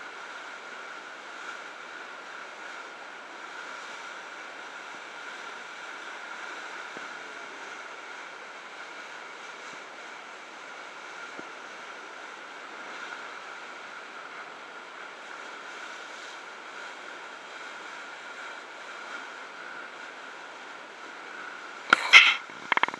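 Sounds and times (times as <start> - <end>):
sea water rushing along bow: 0.0 - 22.9
wind: 0.0 - 22.9.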